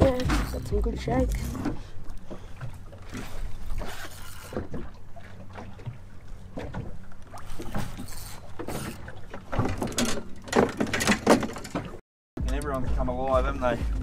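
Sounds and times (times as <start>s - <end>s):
water slapping boat hull: 0.0s - 14.0s.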